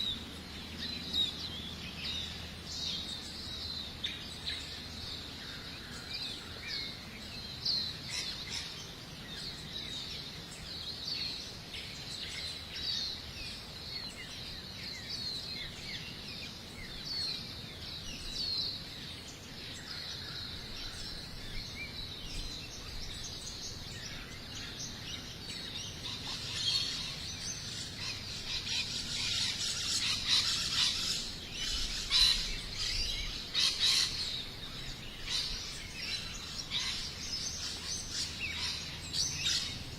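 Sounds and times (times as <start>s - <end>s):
birds chirping and singing: 0.0s - 39.9s
outdoor background hiss: 0.0s - 39.9s.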